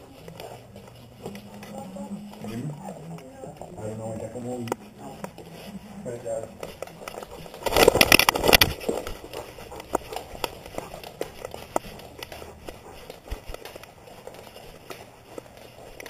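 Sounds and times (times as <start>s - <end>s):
camera scuffing and rubbing: 0.0s - 16.0s.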